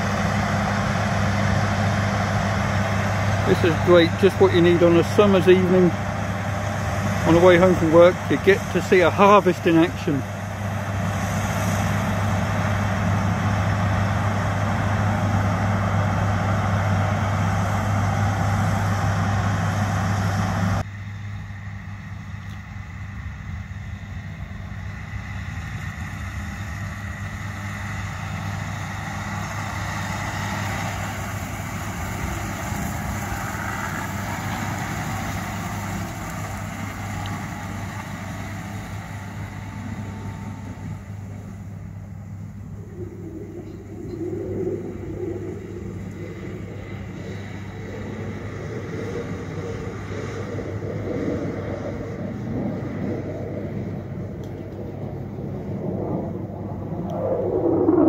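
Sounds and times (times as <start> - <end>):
combine harvester engine drone: 0.0 - 58.0
tractor engine drone: 0.0 - 58.0.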